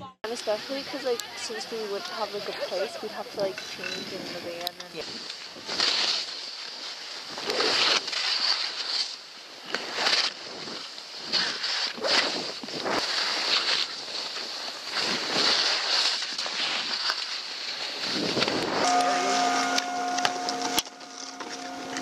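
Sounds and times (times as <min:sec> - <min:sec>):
skis swishing through powder snow: 0:00.3 - 0:22.0.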